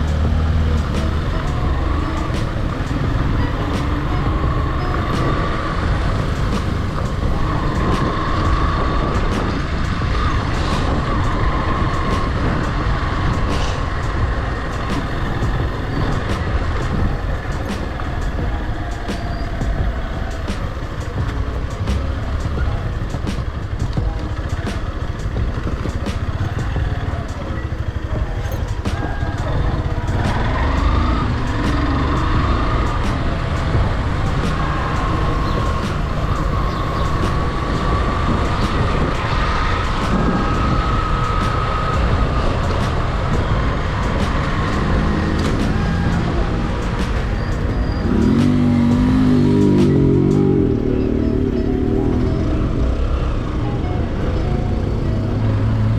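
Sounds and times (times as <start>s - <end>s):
motorcycle engine: 0.0s - 55.9s
traffic: 0.0s - 55.9s
wind and road noise: 0.0s - 55.9s.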